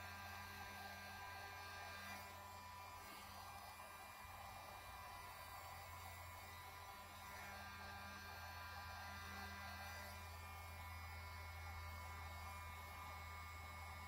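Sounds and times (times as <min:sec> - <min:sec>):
heat gun fan hum: 0:00.0 - 0:14.0.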